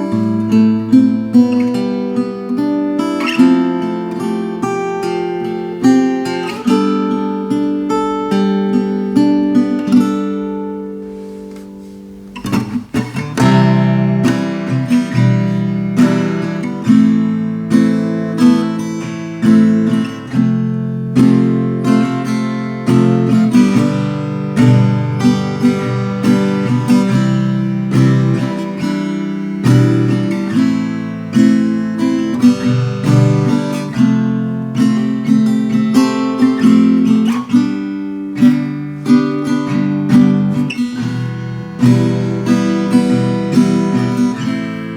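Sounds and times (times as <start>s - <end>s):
acoustic guitar strummed chords: 0.0s - 44.9s.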